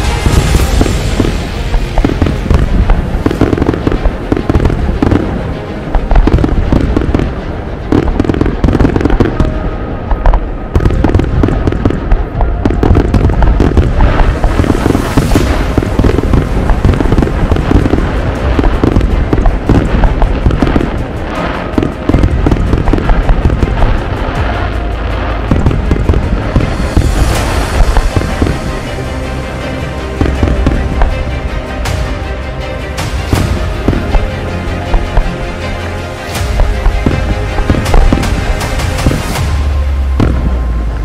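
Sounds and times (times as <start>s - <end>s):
fireworks bangs and crackling: 0.0s - 32.1s, 32.9s - 41.0s
heavy low fireworks booms: 0.0s - 41.0s.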